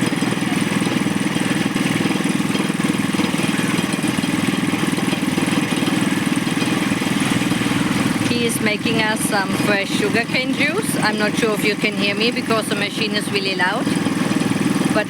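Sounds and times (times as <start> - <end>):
juice press motor droning: 0.0 - 15.0.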